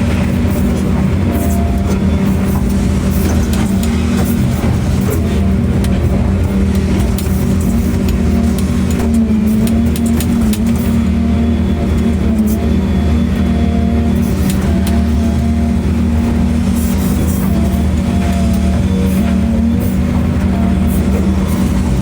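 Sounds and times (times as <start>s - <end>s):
machine engine humming: 0.0s - 22.0s.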